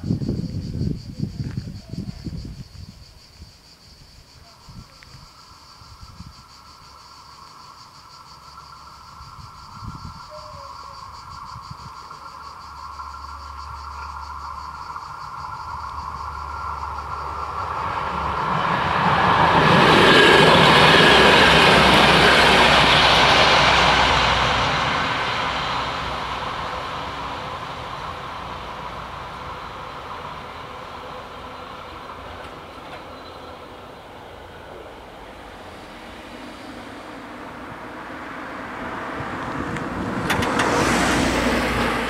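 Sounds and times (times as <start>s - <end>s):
diesel railcar passing: 0.0s - 42.0s.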